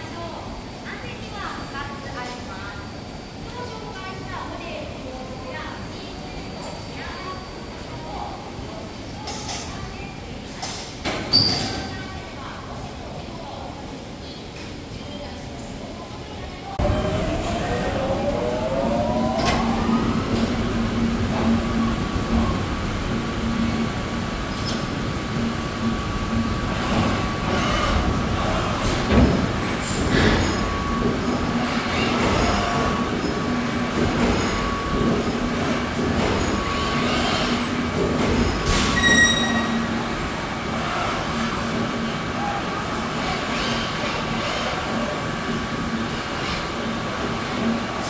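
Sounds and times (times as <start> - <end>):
loud mechanical hum: 0.0 - 48.0.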